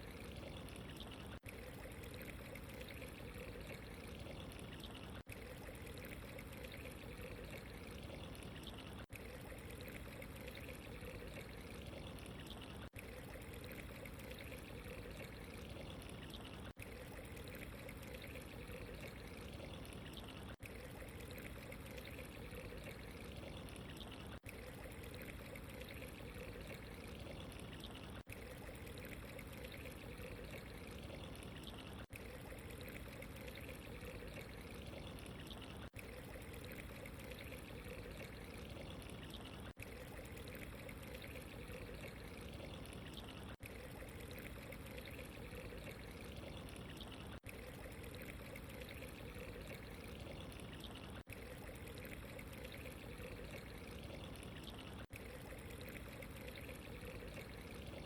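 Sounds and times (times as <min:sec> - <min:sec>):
water trickling and pouring: 0:00.0 - 0:58.0.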